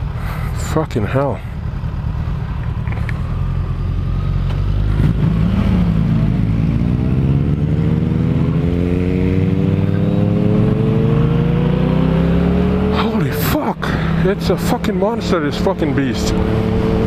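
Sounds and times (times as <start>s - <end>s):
motorcycle engine accelerating: 1.6s - 17.0s.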